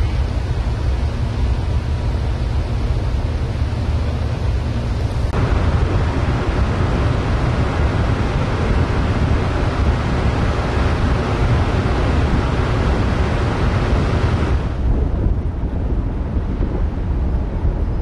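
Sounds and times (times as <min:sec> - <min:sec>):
ferry engine rumble: 0:00.0 - 0:18.0
wind on microphone: 0:00.0 - 0:18.0.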